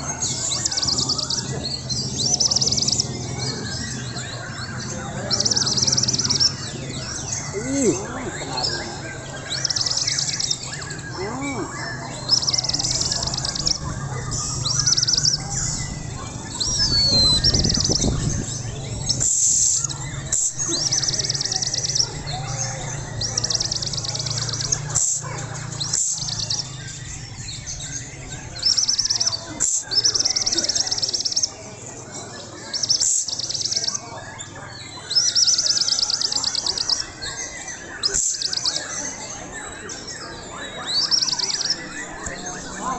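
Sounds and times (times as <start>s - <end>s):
bird singing rattling phrases: 0.0s - 42.9s.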